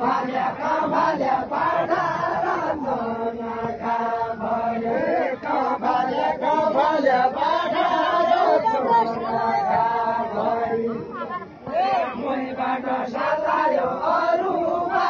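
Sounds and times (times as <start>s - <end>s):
men singing a chant: 0.0s - 15.0s.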